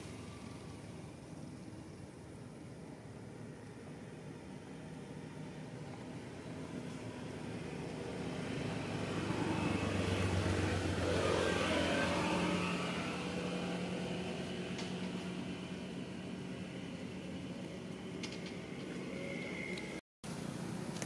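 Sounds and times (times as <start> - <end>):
vehicle engine running: 0.0 - 19.7
steady background hiss: 0.0 - 21.0.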